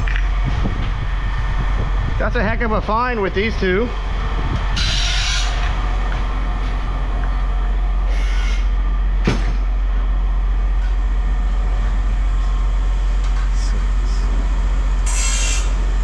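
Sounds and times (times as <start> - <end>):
heavy machine engine droning: 0.0 - 16.0.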